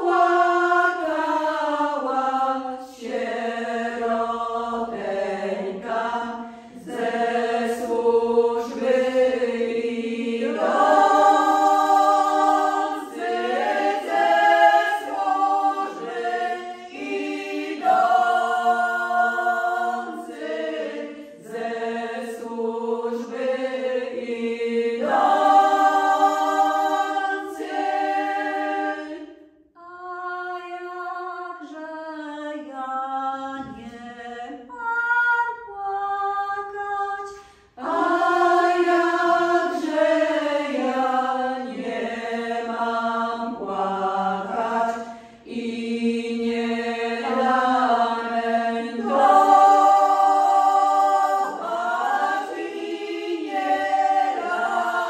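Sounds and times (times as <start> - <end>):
women singing a cappella: 0.0 - 55.0.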